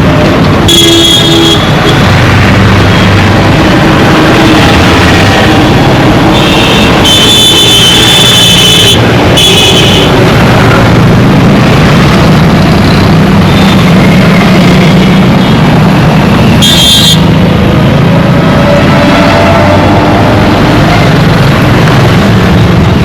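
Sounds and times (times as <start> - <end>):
dense road traffic: 0.0 - 23.0.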